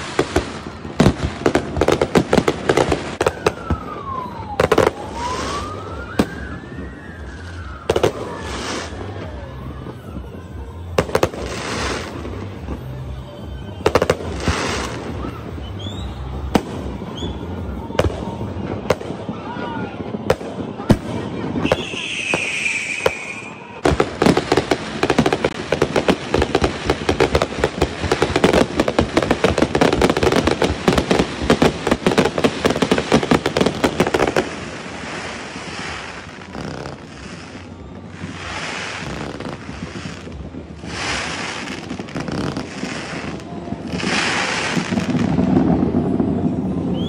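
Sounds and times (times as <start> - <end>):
fireworks crackling and popping: 0.0 - 47.0.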